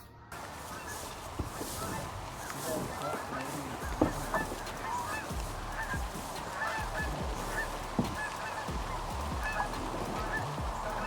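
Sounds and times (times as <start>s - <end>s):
geese honking: 0.3s - 11.0s.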